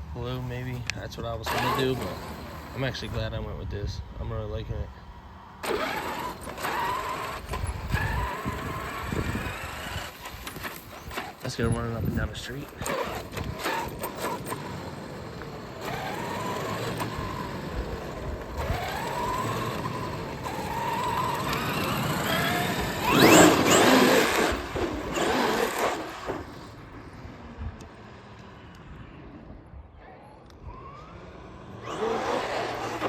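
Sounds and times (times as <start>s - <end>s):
tyre noise: 0.0s - 3.6s, 5.6s - 28.8s
electric motor whining: 0.0s - 33.0s.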